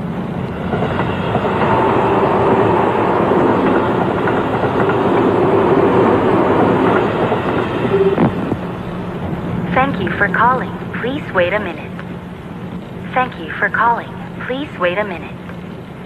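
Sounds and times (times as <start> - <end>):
rumbling and clattering noise: 0.0 - 16.0.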